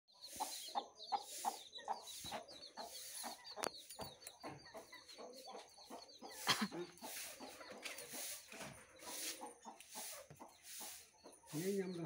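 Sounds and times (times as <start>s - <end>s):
chicken clucking: 0.1s - 12.0s.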